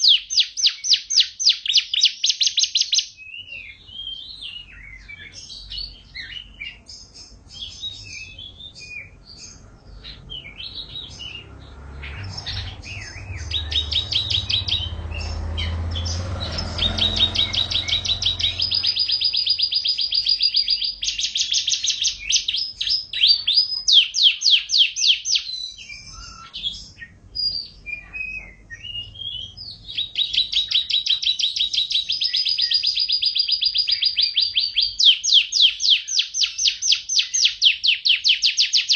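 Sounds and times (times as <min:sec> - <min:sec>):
canary singing with trills: 0:00.0 - 0:38.9.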